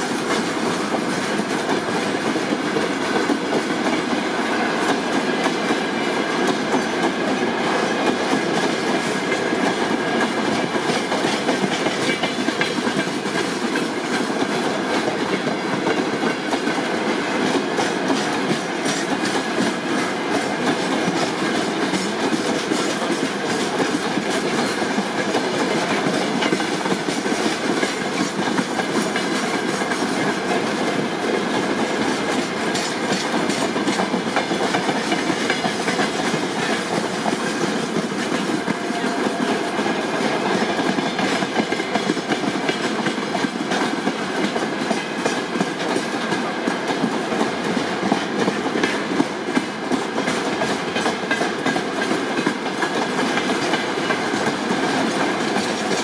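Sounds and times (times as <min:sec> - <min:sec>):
train wheels rumbling on rail: 0:00.0 - 0:56.0
wheels clacking over rail joints: 0:00.0 - 0:56.0.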